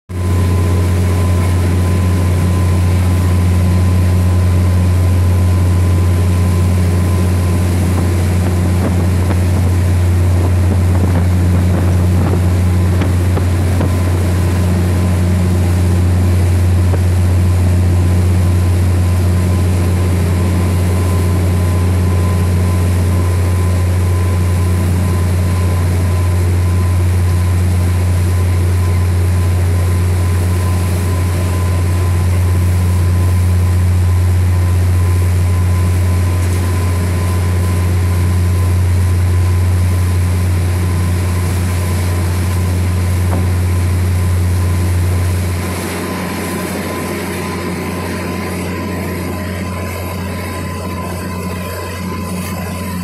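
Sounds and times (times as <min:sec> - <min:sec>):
motorboat engine droning: 0:00.1 - 0:53.0
water rushing past hull: 0:00.1 - 0:53.0.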